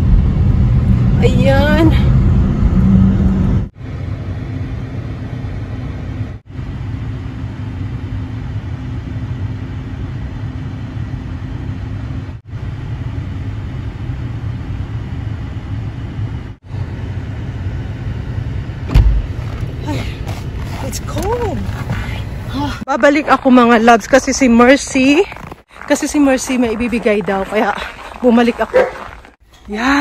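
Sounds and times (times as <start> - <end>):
car engine and tyres rumbling: 0.0 - 29.9.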